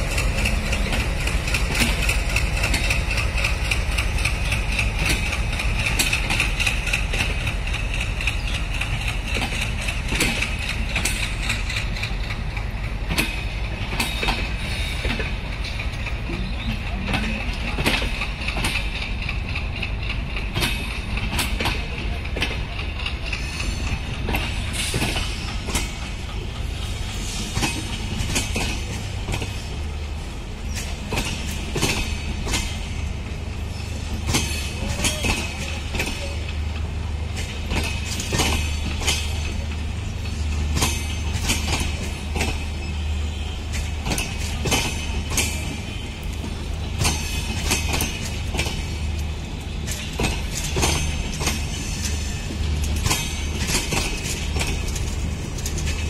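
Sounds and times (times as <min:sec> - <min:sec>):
train coaches rumbling on track: 0:00.0 - 0:56.0
wheels clacking over rail joints: 0:00.0 - 0:56.0.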